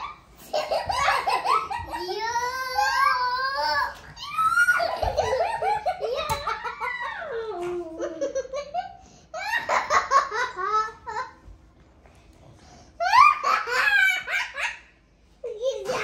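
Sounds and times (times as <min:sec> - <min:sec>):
young child laughing: 0:00.0 - 0:11.4, 0:13.0 - 0:14.9.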